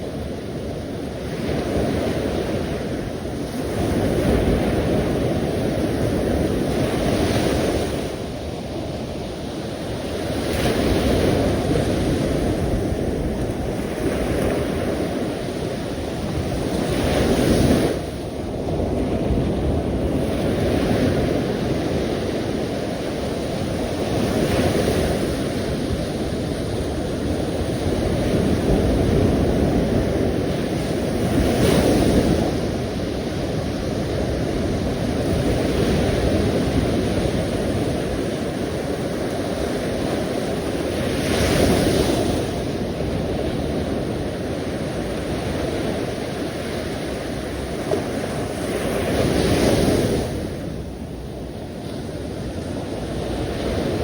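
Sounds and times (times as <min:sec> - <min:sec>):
sea waves washing on shore: 0:00.0 - 0:54.0
wind rumble on microphone: 0:00.0 - 0:54.0.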